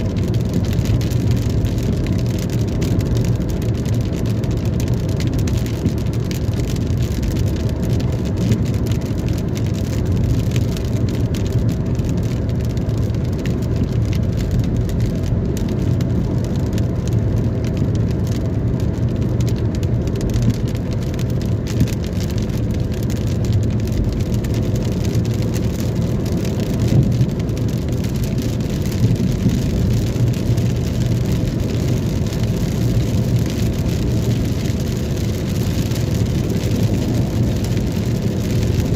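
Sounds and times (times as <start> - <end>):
steady rain falling: 0.0 - 38.9
vehicle low rumble: 0.0 - 38.9.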